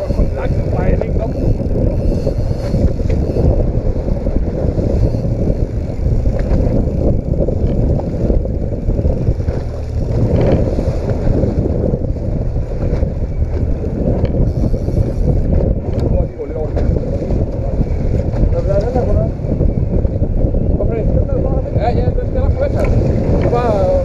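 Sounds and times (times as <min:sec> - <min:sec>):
small boat at sea: 0:00.0 - 0:24.0
wind rumble on microphone: 0:00.0 - 0:24.0.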